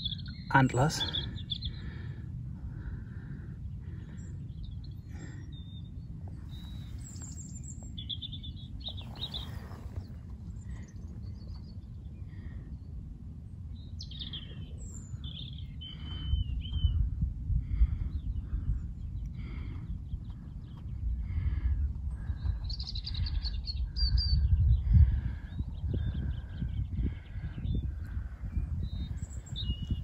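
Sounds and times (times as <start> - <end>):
birds chirping and singing: 0.0 - 12.9, 13.8 - 17.2, 17.8 - 30.0
steady low rumble: 0.0 - 30.0.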